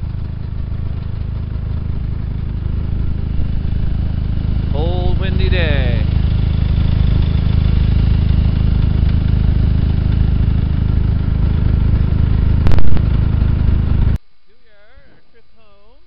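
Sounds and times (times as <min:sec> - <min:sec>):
snowmobile engine idling: 0:00.0 - 0:14.2.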